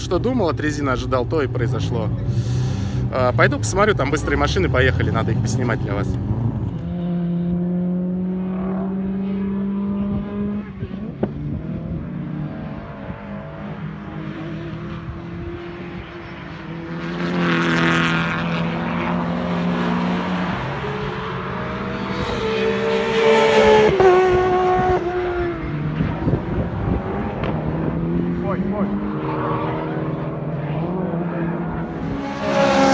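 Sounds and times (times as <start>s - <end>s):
race cars revving past: 0.4s - 32.9s.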